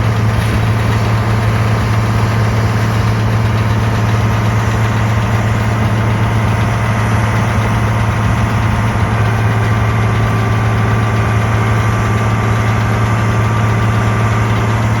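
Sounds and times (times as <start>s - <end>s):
tractor diesel engine drone: 0.0s - 15.0s.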